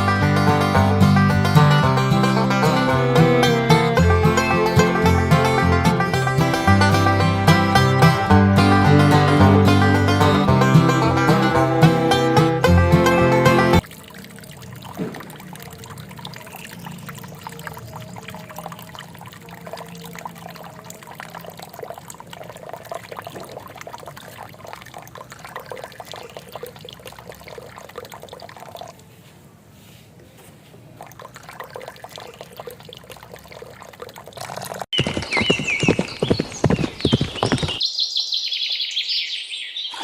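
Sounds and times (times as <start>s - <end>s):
water pouring and trickling: 0.0s - 29.1s, 30.8s - 35.0s.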